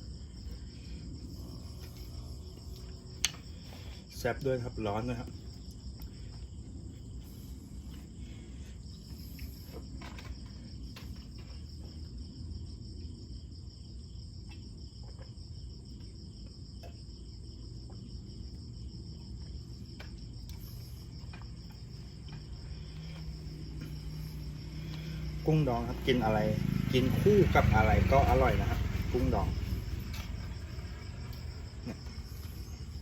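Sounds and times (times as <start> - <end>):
low background rumble: 0.0 - 14.4, 15.5 - 33.0
insects chirring: 0.0 - 33.0.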